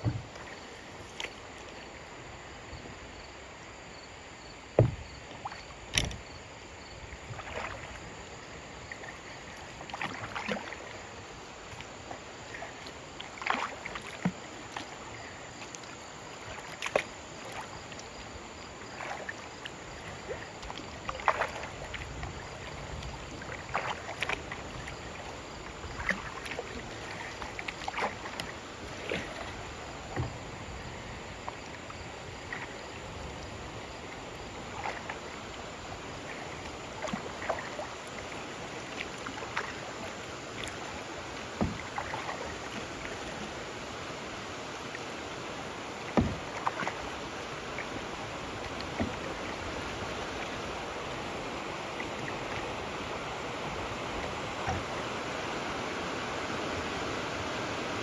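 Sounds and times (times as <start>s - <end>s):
kayak paddle splashes and knocks: 0.0s - 3.3s, 3.9s - 58.0s
river water rushing: 6.6s - 58.0s.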